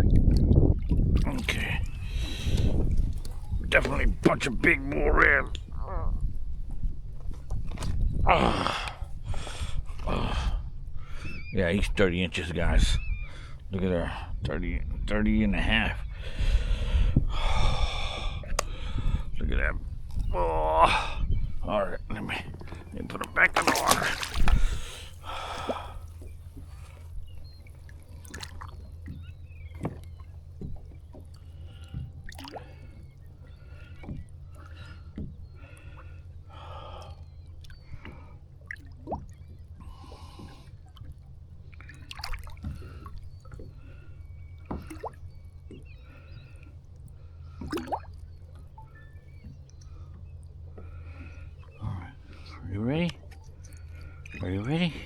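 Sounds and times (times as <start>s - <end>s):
steady low hum: 0.0s - 55.0s
water sloshing and gurgling: 0.0s - 55.0s.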